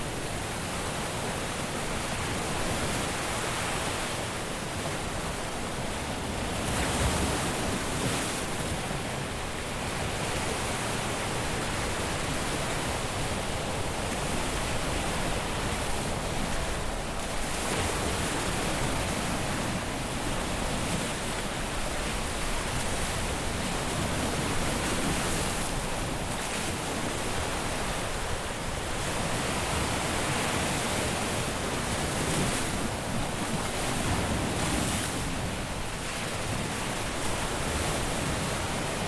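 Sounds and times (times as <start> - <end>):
surf washing onto beach: 0.0 - 39.0.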